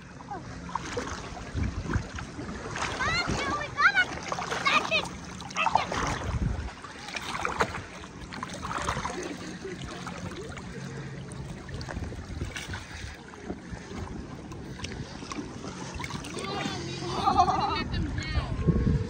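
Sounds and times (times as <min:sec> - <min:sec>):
oars splashing in water: 0:00.0 - 0:17.6
water lapping against boat: 0:00.0 - 0:19.0.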